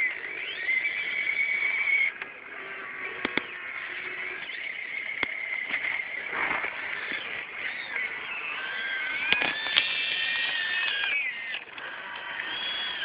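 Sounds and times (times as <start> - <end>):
model excavator motors whining: 0.0 - 13.0
sharp clicks: 0.0 - 13.0.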